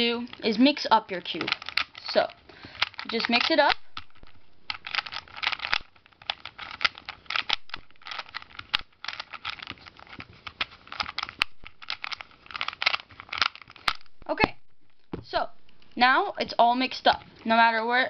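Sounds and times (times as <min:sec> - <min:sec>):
puzzle cube plastic clicking: 0:00.0 - 0:17.6.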